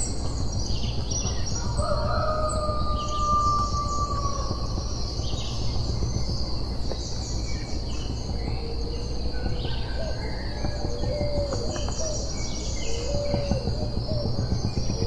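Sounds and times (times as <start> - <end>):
birds chirping and calling: 0.0 - 15.0
high insect drone: 0.0 - 15.0.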